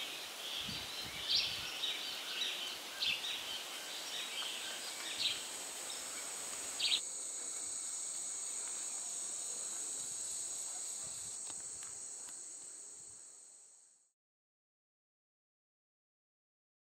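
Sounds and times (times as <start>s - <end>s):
insects trilling: 0.0s - 14.1s.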